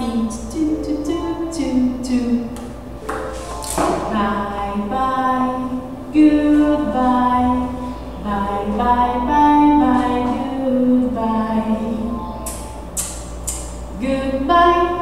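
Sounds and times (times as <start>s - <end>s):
woman singing unaccompanied: 0.0s - 2.7s, 3.3s - 12.8s, 13.9s - 15.0s.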